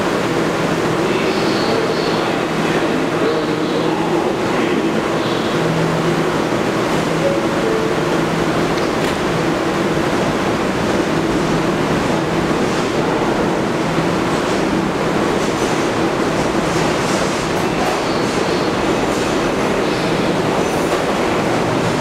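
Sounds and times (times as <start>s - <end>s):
subway train hum and rumble: 0.0s - 22.0s.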